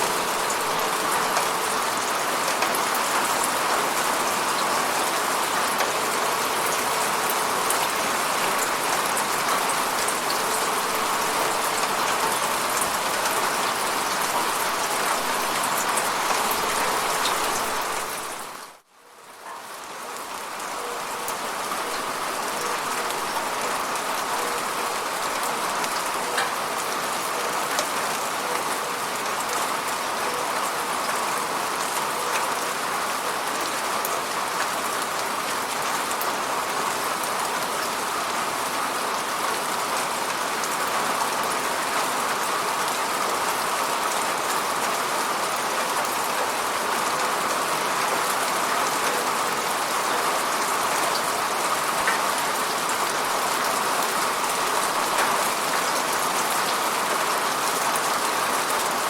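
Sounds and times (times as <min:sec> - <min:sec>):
rain pattering on a window: 0:00.0 - 0:59.0.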